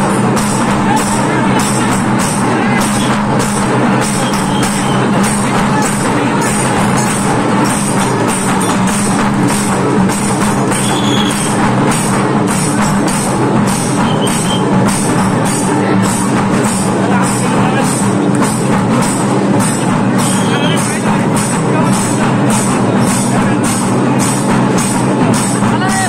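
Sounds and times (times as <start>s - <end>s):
drum-driven procession music: 0.0s - 26.0s.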